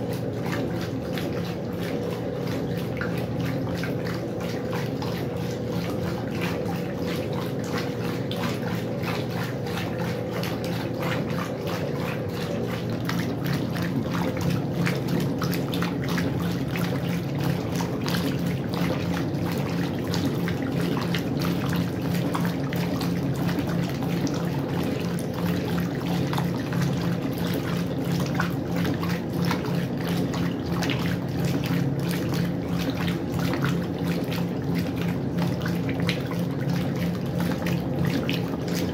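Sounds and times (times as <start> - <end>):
washing machine hum: 0.0 - 38.9
water splashing in washing machine: 0.0 - 38.9.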